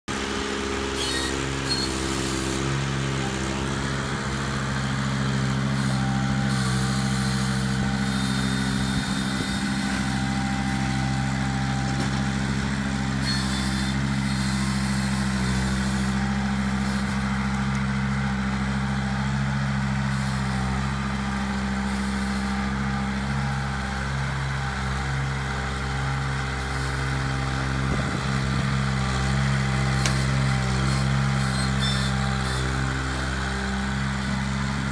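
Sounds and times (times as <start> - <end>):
tractor diesel engine droning: 0.1 - 34.9.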